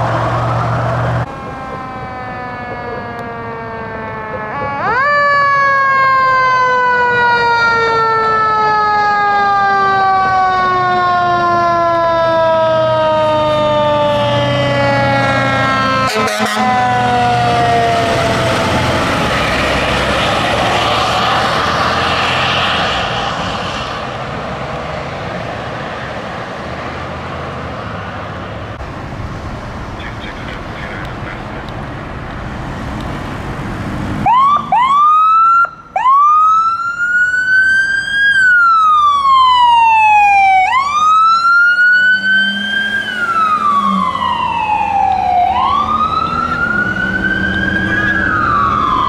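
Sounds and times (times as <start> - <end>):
fire truck siren wailing: 0.0 - 49.0
truck engine and road noise: 0.0 - 49.0.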